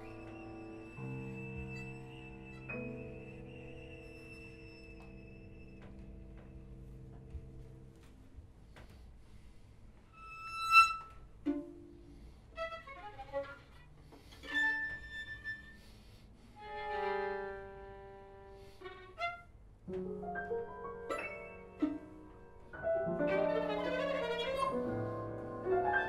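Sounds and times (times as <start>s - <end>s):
violin: 0.0s - 8.0s, 10.1s - 26.0s
piano: 0.0s - 26.0s.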